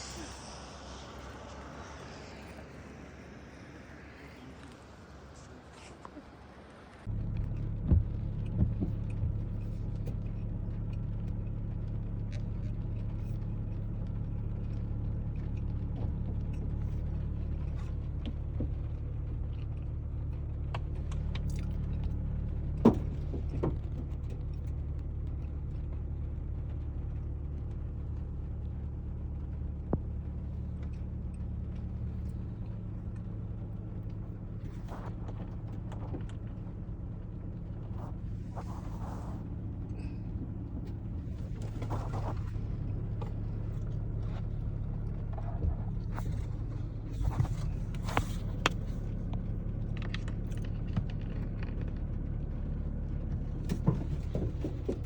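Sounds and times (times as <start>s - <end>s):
vehicle engine idling: 0.0s - 55.0s.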